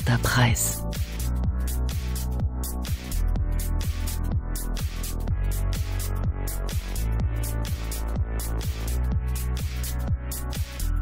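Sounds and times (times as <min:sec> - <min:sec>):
kick drum: 0:00.0 - 0:10.8
deep bass line: 0:00.0 - 0:11.0
electronic dance music: 0:00.0 - 0:11.0.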